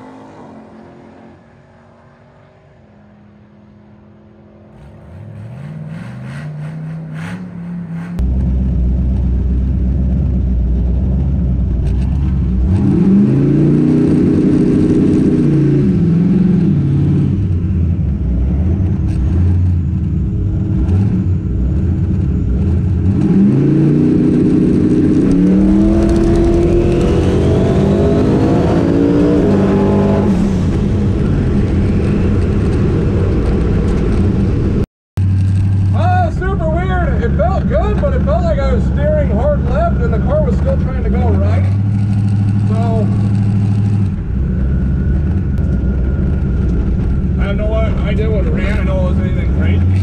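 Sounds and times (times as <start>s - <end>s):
race car engine idling and revving: 0.0s - 50.0s.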